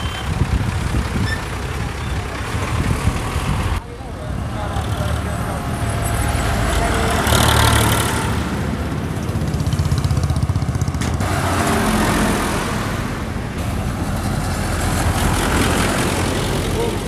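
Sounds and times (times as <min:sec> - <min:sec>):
tractor engines humming: 0:00.0 - 0:17.0
tyre noise on road: 0:00.0 - 0:17.0.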